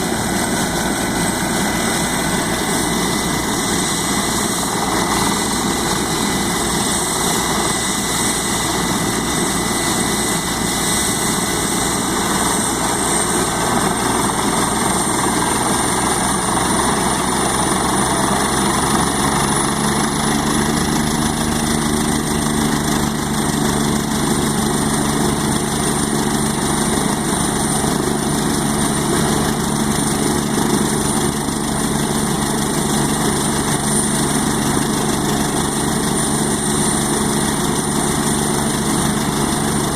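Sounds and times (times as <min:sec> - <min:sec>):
helicopter engine and rotor noise: 0:00.0 - 0:39.9
helicopter turbine whine: 0:00.0 - 0:39.9.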